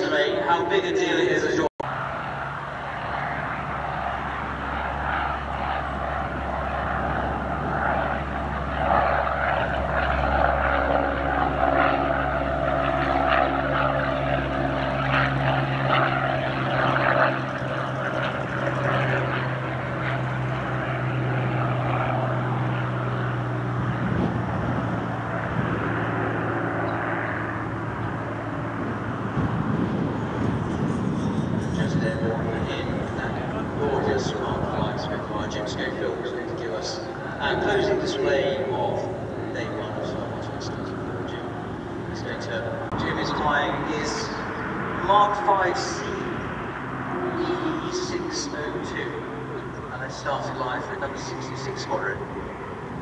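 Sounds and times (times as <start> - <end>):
propeller plane engine drone: 0.0 - 53.0.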